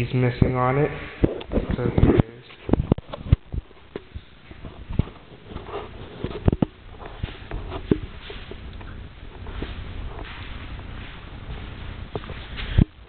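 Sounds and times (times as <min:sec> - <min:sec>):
footsteps: 0:01.0 - 0:13.0.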